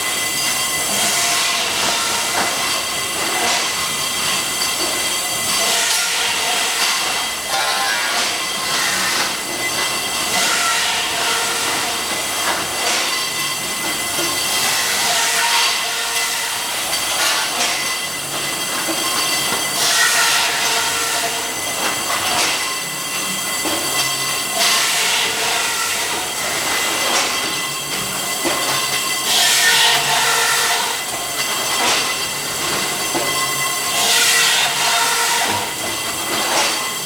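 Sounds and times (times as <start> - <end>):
saw screeching through metal pipes: 0.0 - 37.0.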